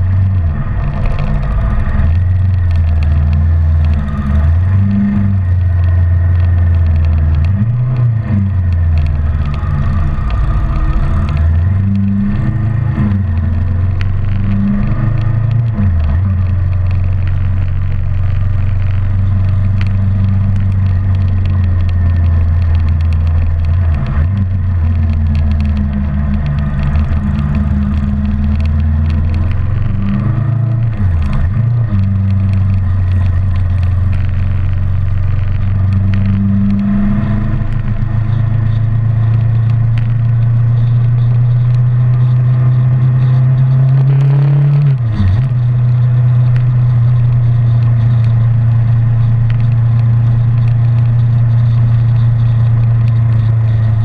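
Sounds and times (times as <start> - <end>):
motorcycle engine cruising: 0.0 - 54.0
road and wind rush: 0.0 - 54.0.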